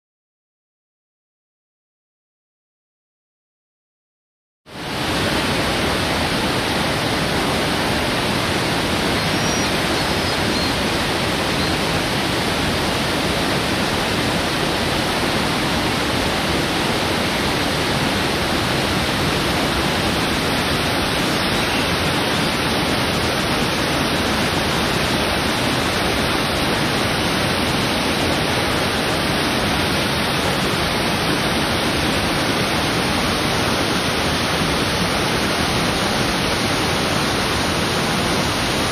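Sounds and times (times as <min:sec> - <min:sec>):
waterfall rushing: 0:04.7 - 0:38.9.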